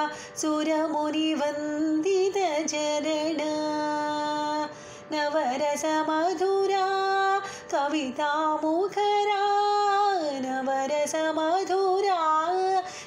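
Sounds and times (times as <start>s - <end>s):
woman singing a devotional hymn: 0.0s - 13.0s.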